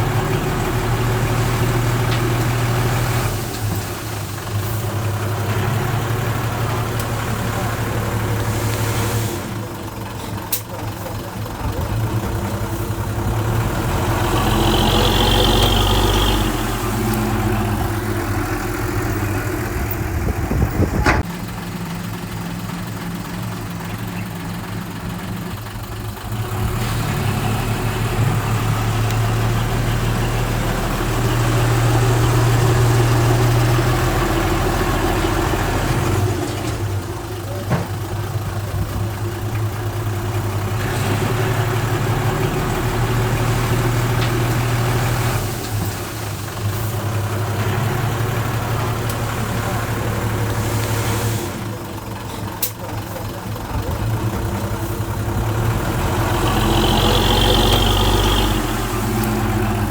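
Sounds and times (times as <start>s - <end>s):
diesel engines of earthmovers: 0.0s - 59.9s.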